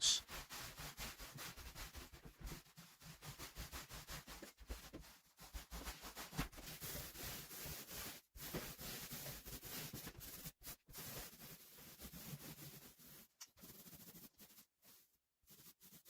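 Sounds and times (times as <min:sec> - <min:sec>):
paint roller rubbing on ceiling: 0:00.0 - 0:16.0.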